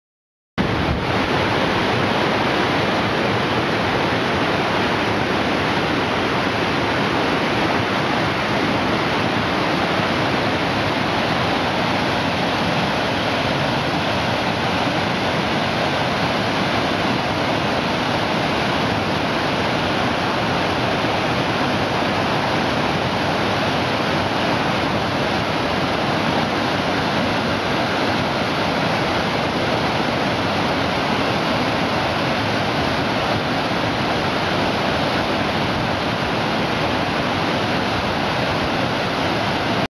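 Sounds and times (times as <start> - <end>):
water rushing over waterfall: 0.6 - 39.9.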